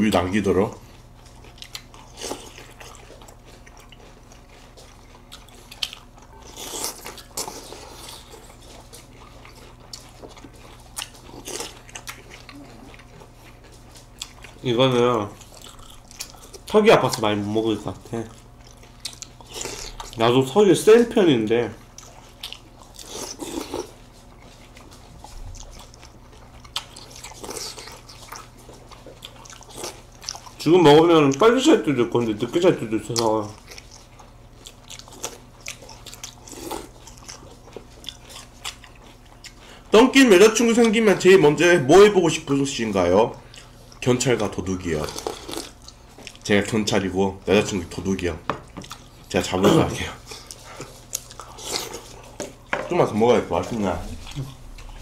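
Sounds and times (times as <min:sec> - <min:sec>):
crunching and chewing cereal: 0:00.0 - 0:55.0.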